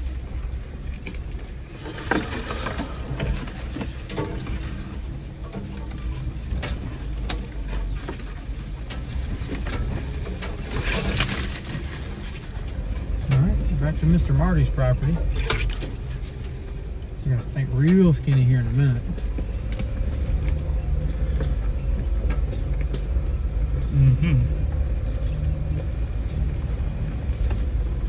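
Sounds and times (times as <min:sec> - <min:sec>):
vehicle drivetrain rumble: 0:00.0 - 0:28.0
twigs snapping under tyres: 0:00.8 - 0:13.9, 0:14.8 - 0:17.1, 0:17.8 - 0:23.9, 0:24.6 - 0:28.0.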